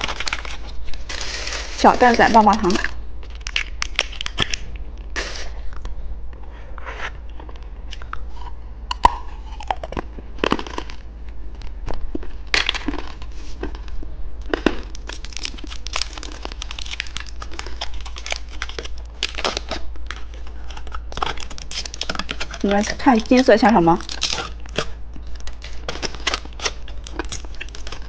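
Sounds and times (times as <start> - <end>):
plastic wrapper crinkling and tearing: 0.0 - 4.8, 7.9 - 28.0.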